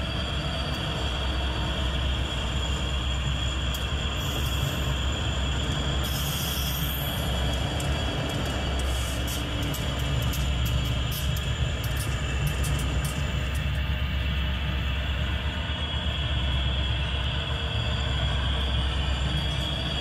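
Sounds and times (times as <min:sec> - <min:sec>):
model train running: 0:00.0 - 0:20.0
thin high whine: 0:00.0 - 0:20.0.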